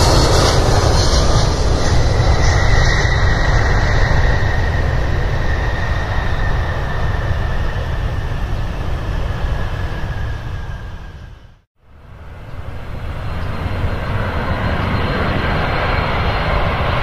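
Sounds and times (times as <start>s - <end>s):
turboprop airliner taking off: 0.0s - 17.0s.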